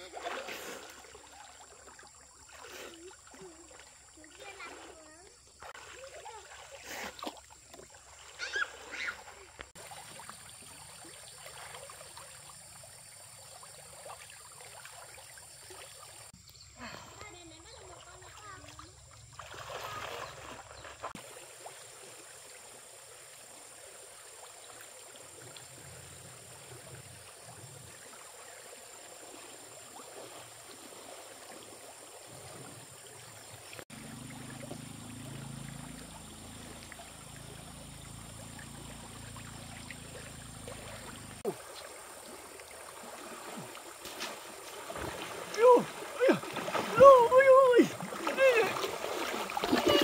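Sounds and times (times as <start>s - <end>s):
faint stream running water: 0.0s - 50.0s.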